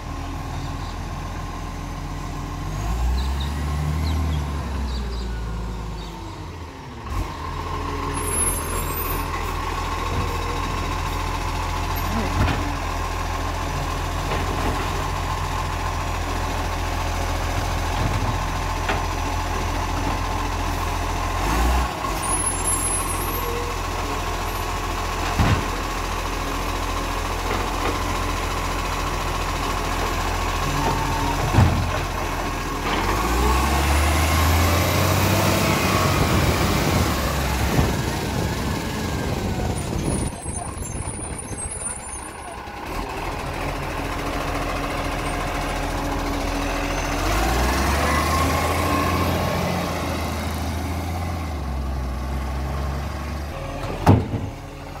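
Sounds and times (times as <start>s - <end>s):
garbage truck engine: 0.0s - 55.0s.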